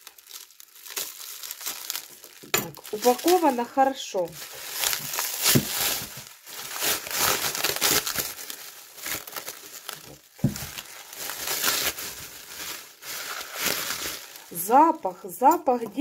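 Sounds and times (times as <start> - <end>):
plastic wrap crinkling: 0.0 - 16.0.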